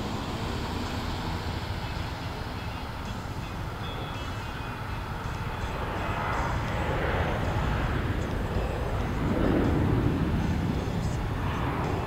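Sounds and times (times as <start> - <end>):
turboprop airliner engines droning: 0.0 - 12.0.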